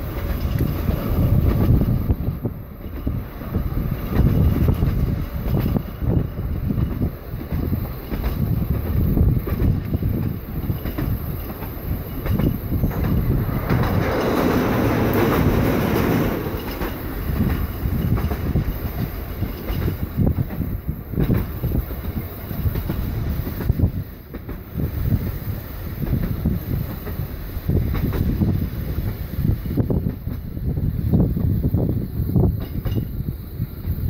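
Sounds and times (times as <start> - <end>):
tram wheels rumbling on rails: 0.0 - 34.0
wind buffeting microphone: 0.0 - 34.0.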